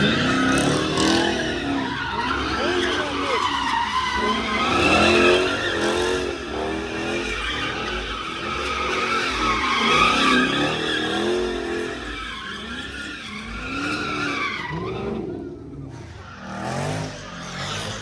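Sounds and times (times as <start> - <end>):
car tires squealing: 0.0 - 18.0.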